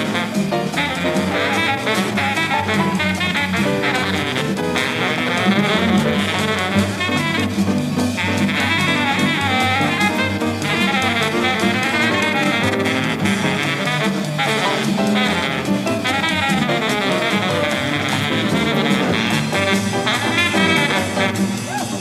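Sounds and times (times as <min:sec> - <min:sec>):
baritone saxophone: 0:00.0 - 0:22.0
drum kit with cymbals: 0:00.0 - 0:22.0
walking bass: 0:00.0 - 0:22.0.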